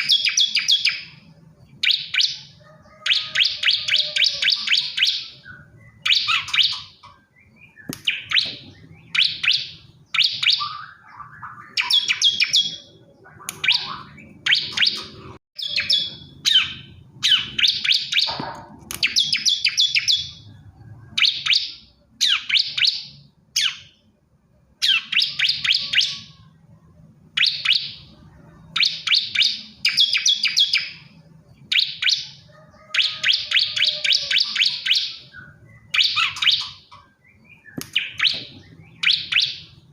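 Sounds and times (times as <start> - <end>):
bird singing high rapid notes: 0.0 - 24.1, 24.8 - 26.6, 27.4 - 39.9.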